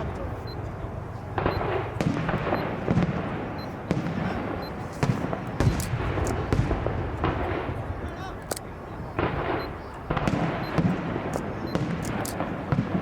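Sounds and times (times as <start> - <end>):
low rumble of fireworks: 0.0 - 13.0
fireworks bangs: 1.3 - 8.0, 9.1 - 13.0.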